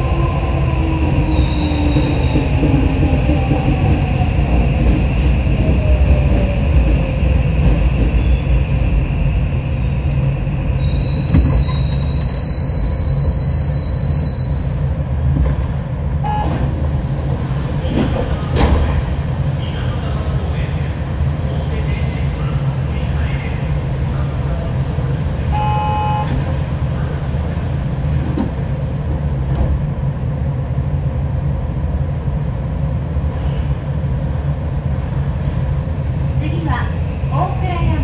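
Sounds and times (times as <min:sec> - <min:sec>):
train running rumble: 0:00.0 - 0:14.1, 0:14.9 - 0:38.0.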